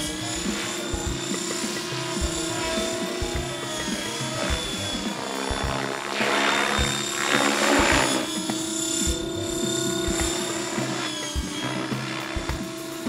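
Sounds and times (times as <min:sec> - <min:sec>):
model helicopter rotor whine: 0:00.0 - 0:13.0.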